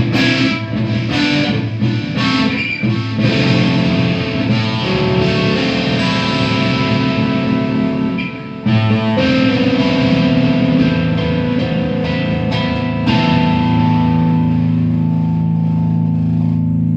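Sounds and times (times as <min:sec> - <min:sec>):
overdriven electric guitar chords: 0:00.0 - 0:16.9.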